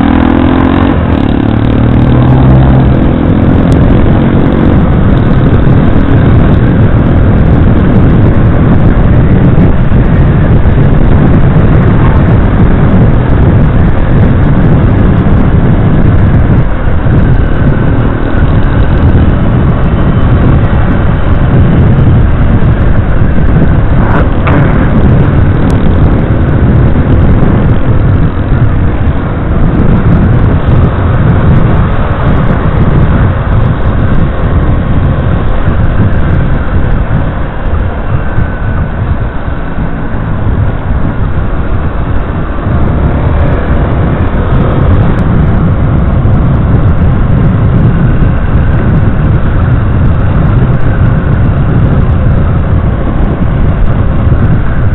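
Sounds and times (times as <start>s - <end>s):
motorcycle engine running: 0.0s - 54.9s
wind rush on microphone: 0.0s - 54.9s.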